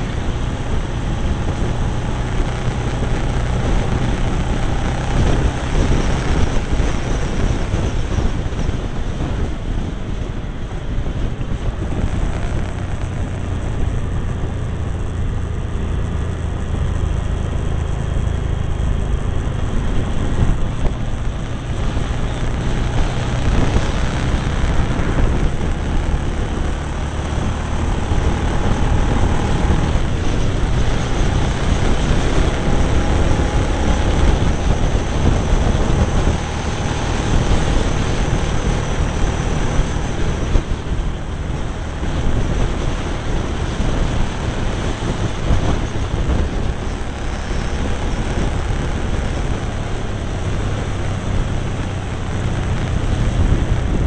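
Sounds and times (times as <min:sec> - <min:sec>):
motorcycle engine running: 0:00.0 - 0:54.0
wind on microphone: 0:00.0 - 0:54.0.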